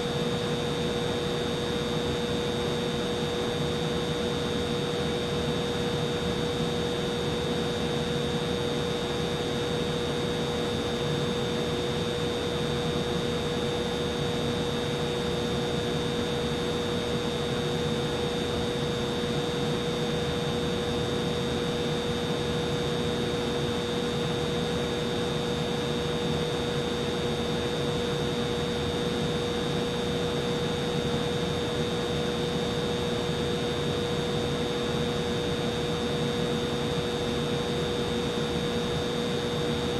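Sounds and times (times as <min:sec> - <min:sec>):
humidifier fan whirring: 0:00.0 - 0:39.9.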